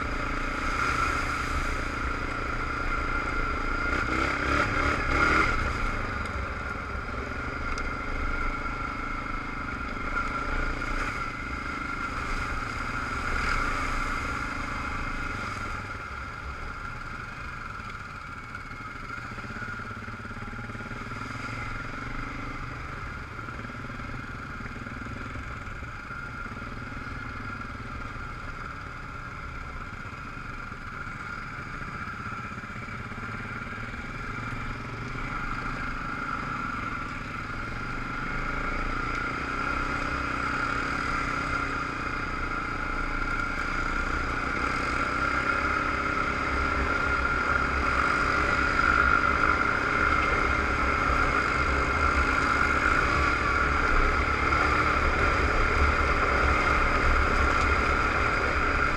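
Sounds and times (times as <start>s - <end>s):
atv engine running: 0.0s - 58.9s
wind and trail rumble: 0.0s - 58.9s.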